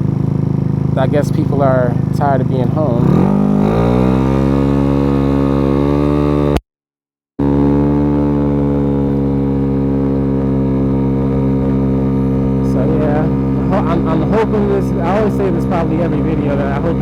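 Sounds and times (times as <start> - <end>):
scooter engine running: 0.0 - 6.6, 7.4 - 17.0.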